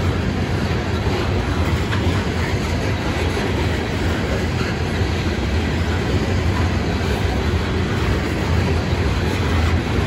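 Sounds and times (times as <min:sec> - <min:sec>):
freight train wheels rumbling on rail: 0:00.0 - 0:10.0.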